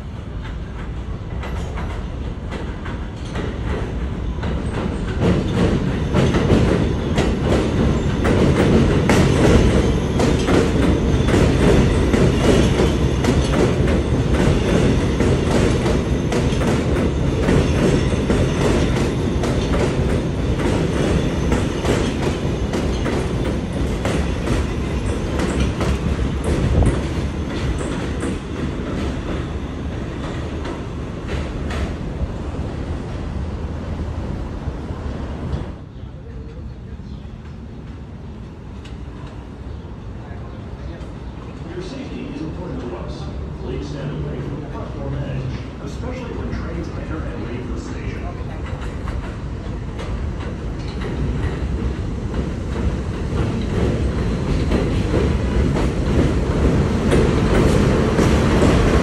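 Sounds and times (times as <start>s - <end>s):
train wheels clacking on rails: 0.1s - 32.2s, 41.8s - 59.0s.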